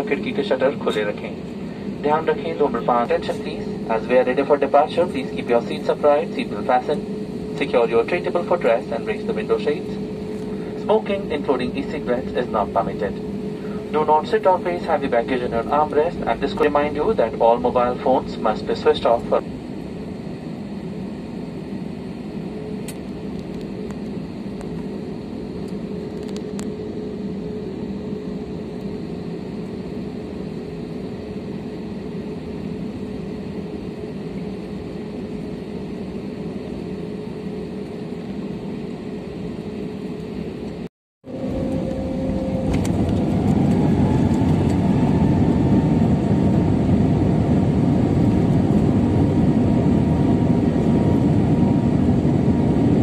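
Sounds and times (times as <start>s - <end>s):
jet engines humming: 0.0s - 53.0s
jet engines spooling up: 0.0s - 53.0s.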